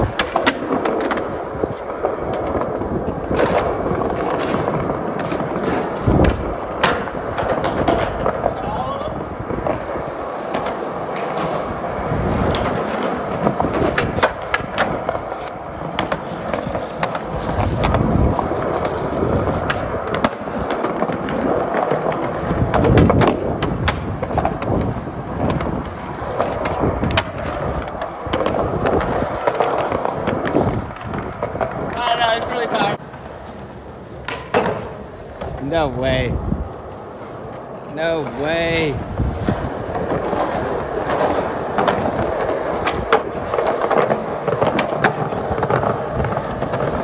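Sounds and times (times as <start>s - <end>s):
skateboard clacks: 0.0s - 47.0s
skateboard wheels rolling on concrete: 0.0s - 47.0s.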